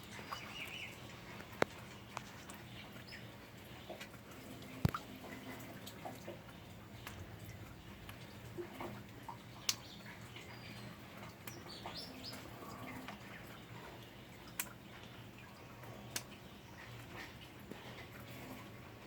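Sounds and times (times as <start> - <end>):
water-drop clicks: 0.0 - 18.3
rain pattering: 0.0 - 19.0.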